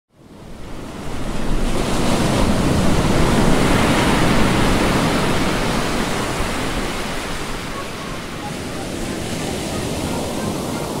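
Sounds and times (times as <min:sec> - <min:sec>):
waves breaking: 0:00.4 - 0:11.0.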